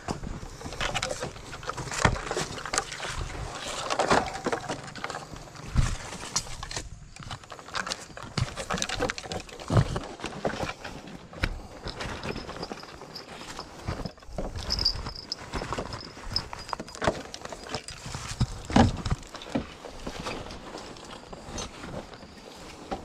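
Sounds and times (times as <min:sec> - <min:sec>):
rustling scraping and clicking: 0:00.0 - 0:23.0.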